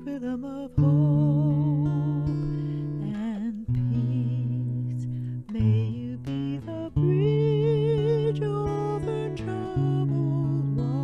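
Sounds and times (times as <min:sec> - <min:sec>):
strummed acoustic guitar: 0:00.0 - 0:11.0
woman singing folk ballad: 0:00.0 - 0:11.0.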